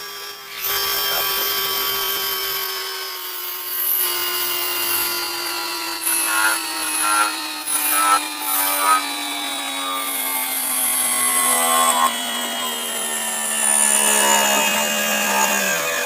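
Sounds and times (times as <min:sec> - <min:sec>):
lathe motor cutting played backwards: 0:00.0 - 0:16.0.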